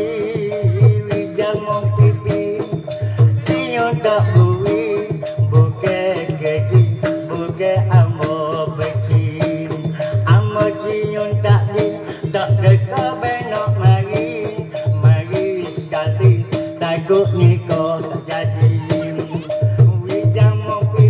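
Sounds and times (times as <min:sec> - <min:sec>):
drumming: 0:00.0 - 0:21.0
high clatter of small percussion: 0:00.0 - 0:21.0
wavering melody: 0:00.0 - 0:21.0.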